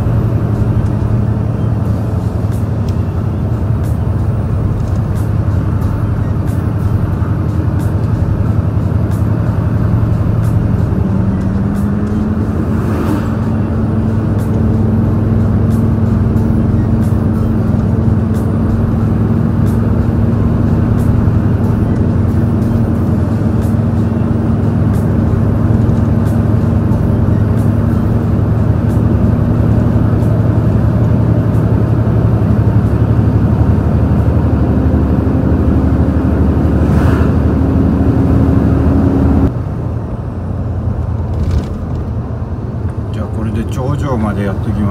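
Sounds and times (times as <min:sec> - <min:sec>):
road noise: 0:00.0 - 0:44.9
truck diesel engine drone: 0:00.0 - 0:44.9.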